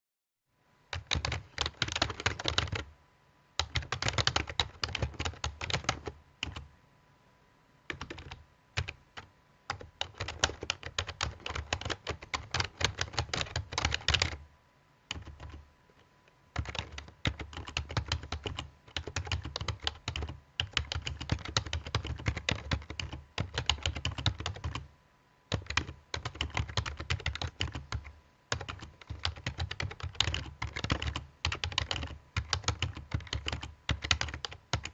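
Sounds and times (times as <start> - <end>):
typing on laptop keyboard: 0.9 - 2.9, 3.6 - 6.7, 7.9 - 14.4, 15.1 - 15.6, 16.6 - 24.9, 25.5 - 34.9.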